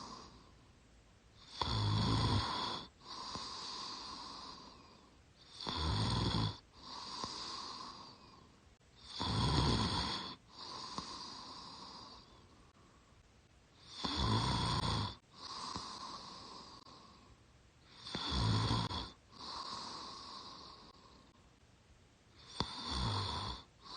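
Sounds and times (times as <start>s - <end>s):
woman snoring: 0.0s - 0.5s, 1.4s - 12.5s, 13.8s - 17.2s, 17.9s - 21.3s, 22.4s - 23.9s.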